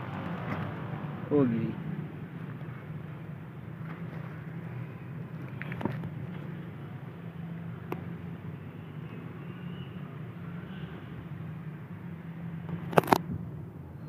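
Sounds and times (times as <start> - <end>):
low hum of road traffic: 0.0 - 14.0.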